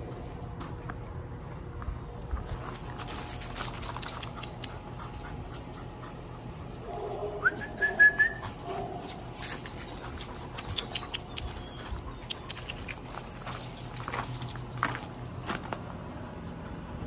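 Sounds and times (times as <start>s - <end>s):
dog paws on concrete and gravel: 0.0s - 16.9s.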